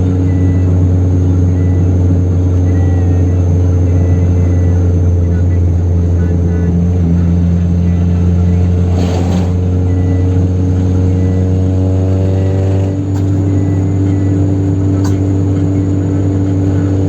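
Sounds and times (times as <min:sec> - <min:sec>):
car engine droning at high speed: 0:00.0 - 0:17.0.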